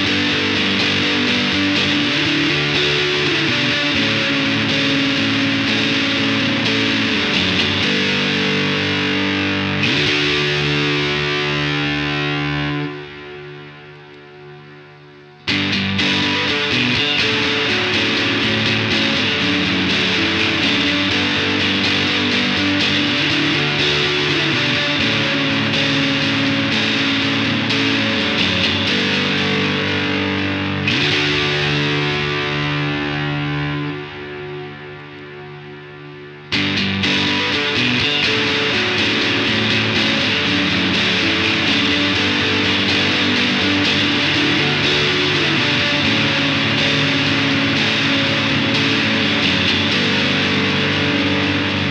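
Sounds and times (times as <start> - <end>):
fuzzy electric guitar chords: 0.0 - 51.9.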